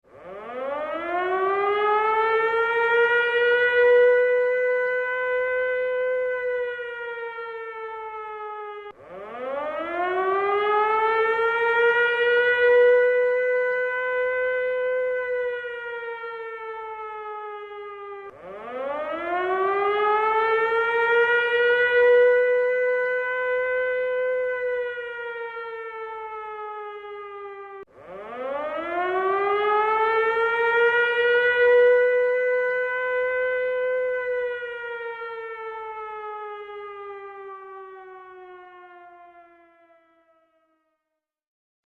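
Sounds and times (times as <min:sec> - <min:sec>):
air-raid siren wailing: 0:00.1 - 0:41.1.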